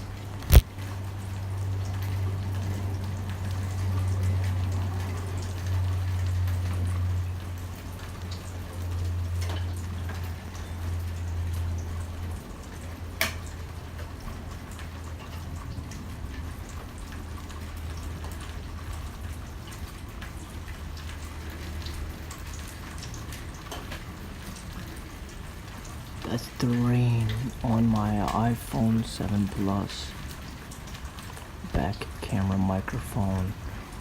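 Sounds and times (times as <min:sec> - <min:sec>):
rain hiss: 0:00.0 - 0:34.0
raindrops tapping close by: 0:00.0 - 0:34.0.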